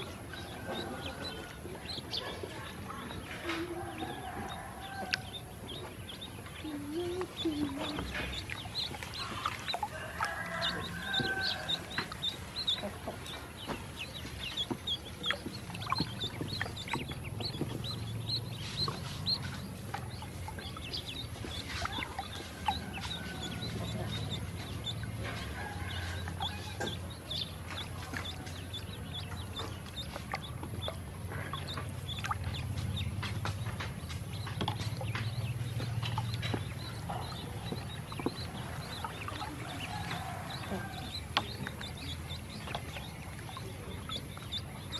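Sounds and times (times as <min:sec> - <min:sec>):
ducklings peeping: 0:00.0 - 0:44.9
splashes from dabbling in water: 0:00.0 - 0:44.9.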